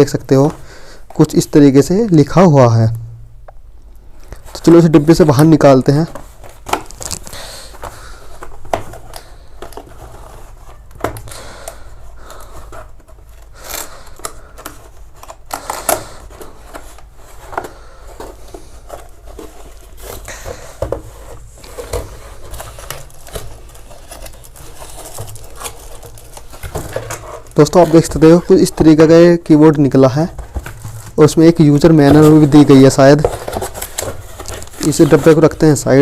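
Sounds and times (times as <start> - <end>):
cardboard packaging rustling: 4.2 - 36.0.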